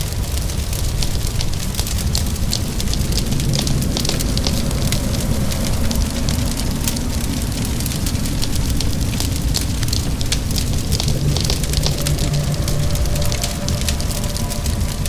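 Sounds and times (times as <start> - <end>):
continuous low rumble: 0.0 - 15.0
steady rain: 0.0 - 15.0
wood fire crackling and popping: 0.0 - 15.0.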